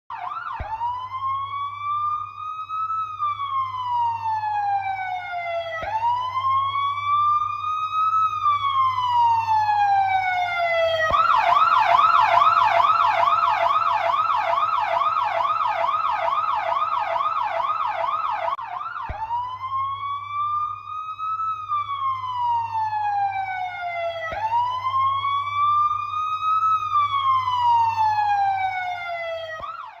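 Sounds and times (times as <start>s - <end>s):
police siren wailing and yelping: 0.1s - 30.0s.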